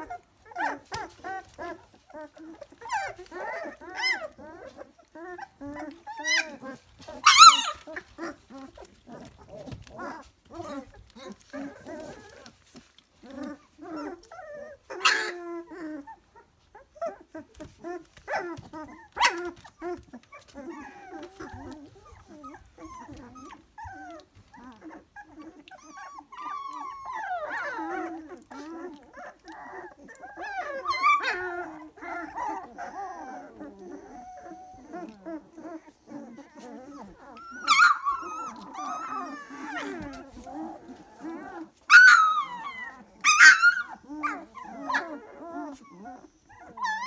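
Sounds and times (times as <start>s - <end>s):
puppies whining and squeaking: 0.0s - 47.0s
puppies yelping: 0.0s - 47.0s.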